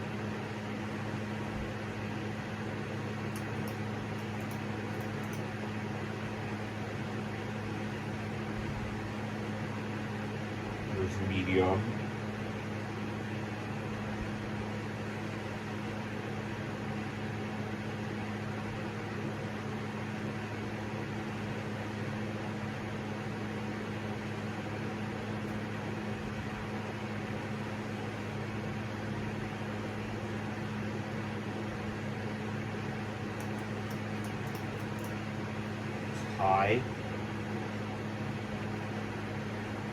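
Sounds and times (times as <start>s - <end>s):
electric fans whirring: 0.0s - 39.9s.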